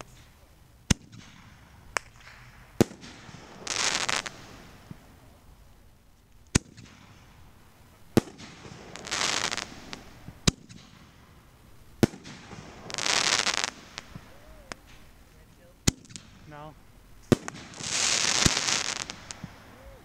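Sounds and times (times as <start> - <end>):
firework bangs: 0.0 - 5.7, 6.5 - 20.0
firework crackling: 0.0 - 20.0.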